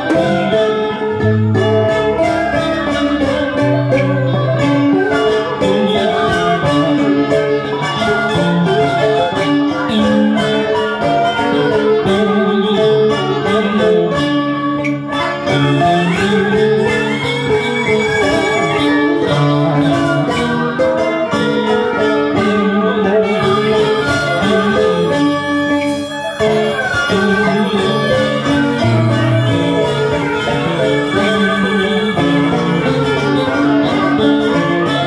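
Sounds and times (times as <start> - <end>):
traditional instrumental ensemble: 0.0 - 35.0.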